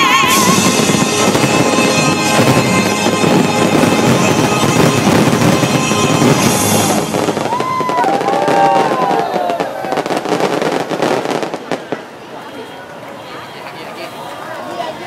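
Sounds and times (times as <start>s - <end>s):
fireworks crackling and bursting: 0.0s - 12.7s
whistling fireworks: 0.0s - 12.7s.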